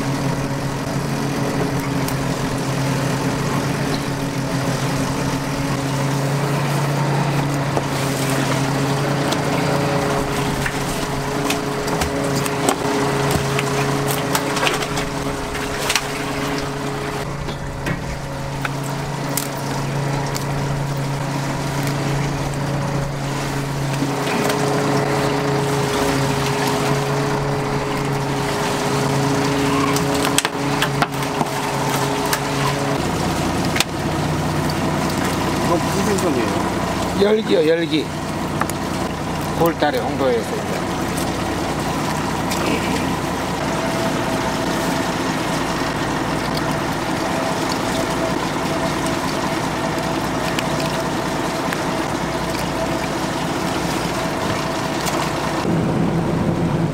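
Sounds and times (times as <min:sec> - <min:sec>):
boat engine humming: 0:00.0 - 0:56.9.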